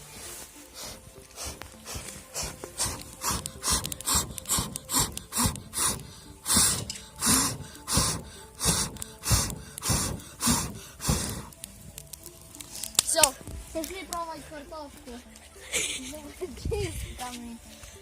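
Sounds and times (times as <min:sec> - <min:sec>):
rhythmic swishing strokes: 0:00.0 - 0:15.6.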